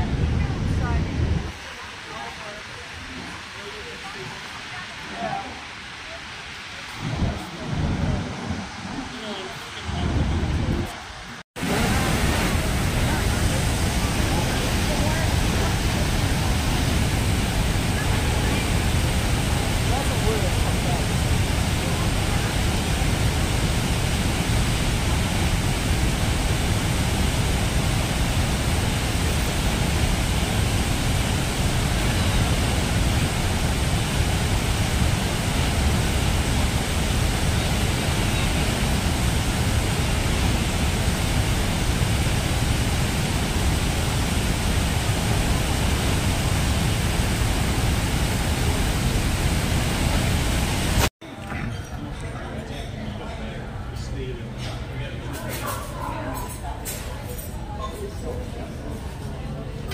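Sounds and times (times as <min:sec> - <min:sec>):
waterfall roaring: 0:00.0 - 0:51.1.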